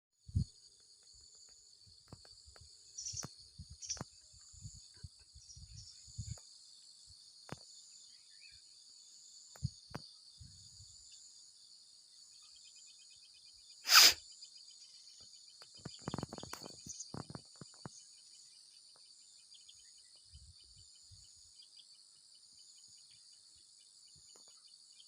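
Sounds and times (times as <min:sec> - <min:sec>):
high-pitched insect chorus: 0:00.2 - 0:25.0.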